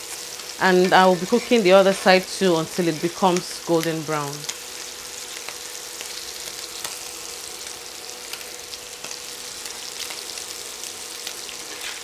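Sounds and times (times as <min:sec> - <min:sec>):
scallops sizzling in a skillet: 0:00.0 - 0:12.0.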